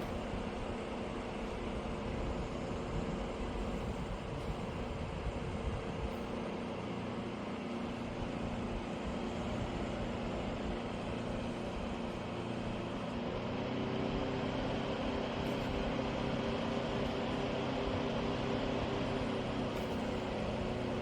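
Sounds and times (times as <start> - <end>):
air cooler fan whoosh: 0.0 - 21.0
motor hum: 0.0 - 21.0.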